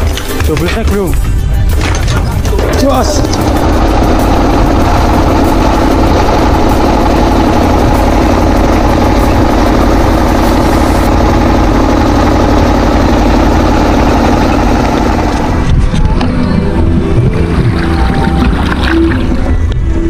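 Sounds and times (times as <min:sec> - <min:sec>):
boat engine droning: 0:01.3 - 0:20.0.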